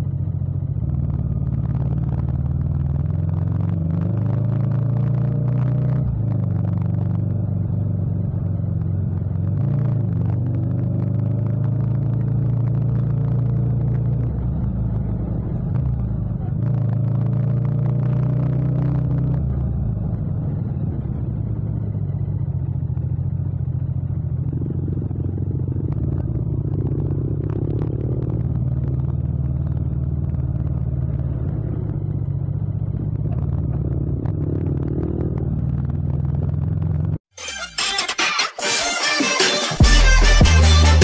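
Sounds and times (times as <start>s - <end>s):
motorcycle engine at low revs: 0.0s - 37.3s.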